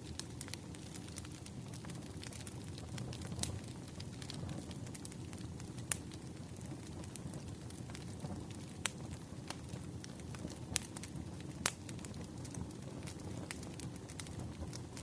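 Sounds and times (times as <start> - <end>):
rumble of flames: 0.0 - 15.0
wood crackles and pops: 0.0 - 15.0.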